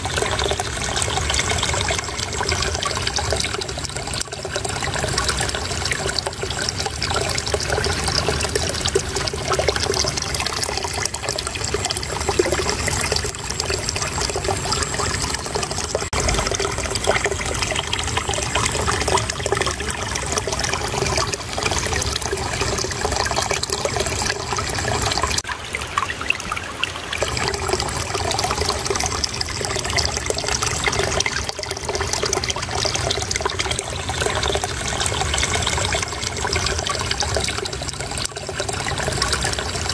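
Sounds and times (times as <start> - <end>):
water babbling and trickling: 0.0 - 39.9.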